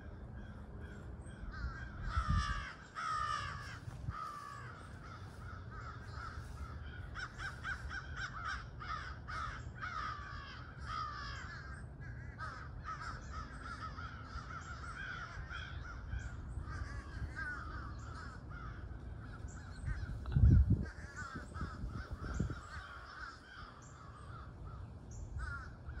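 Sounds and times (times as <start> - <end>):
crows cawing: 0.0 - 26.0.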